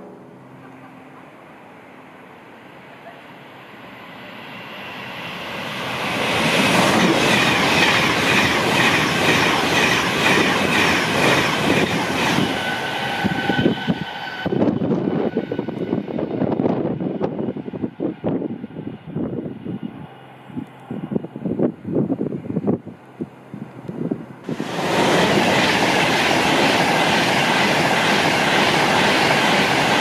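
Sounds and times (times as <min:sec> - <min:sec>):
express train passing: 0:00.0 - 0:30.0.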